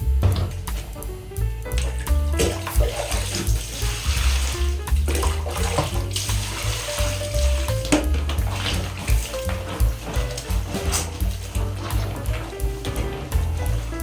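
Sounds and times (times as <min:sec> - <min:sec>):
music with heavy bass line: 0:00.0 - 0:14.0.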